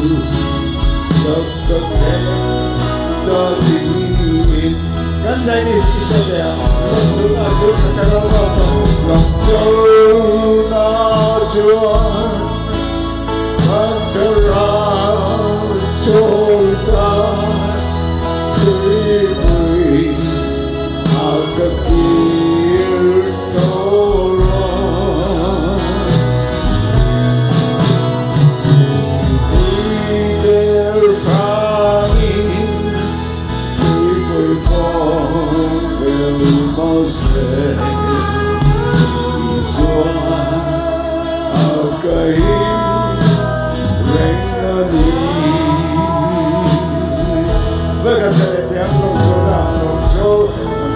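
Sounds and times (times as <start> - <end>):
instrumental accompaniment: 0.0 - 50.9
man singing gospel song: 0.0 - 50.9.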